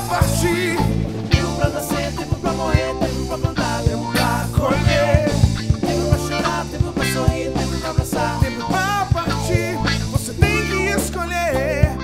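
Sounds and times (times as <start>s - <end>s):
drum kit beat: 0.0s - 12.0s
electric guitar: 0.0s - 12.0s
low bass notes: 0.0s - 12.0s
man singing: 0.0s - 12.0s.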